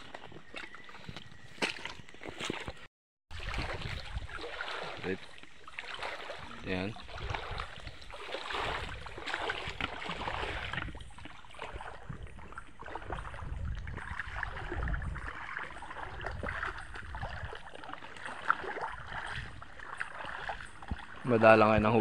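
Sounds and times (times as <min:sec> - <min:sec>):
river water splashing around legs: 0:00.0 - 0:22.0.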